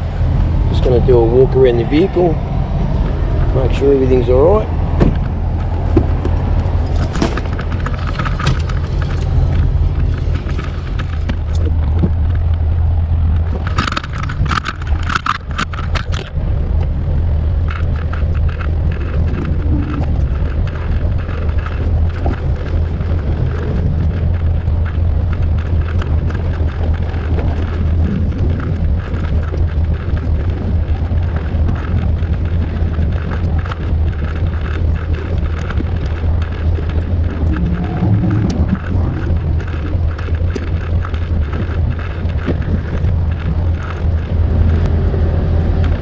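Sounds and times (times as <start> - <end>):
sharp clicks and rattles: 0.0 - 46.0
vehicle engine drone: 0.0 - 46.0.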